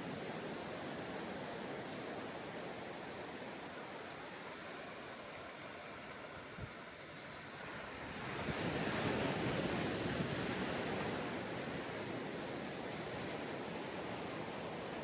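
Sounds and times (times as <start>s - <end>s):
sea waves washing onto beach: 0.0s - 15.0s.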